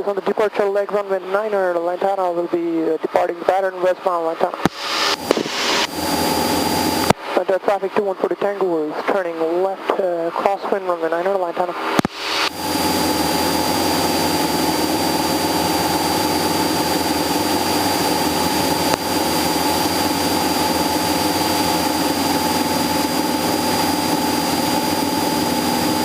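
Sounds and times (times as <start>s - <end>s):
propeller plane engine droning: 0.0s - 26.0s
high whine: 1.0s - 26.0s.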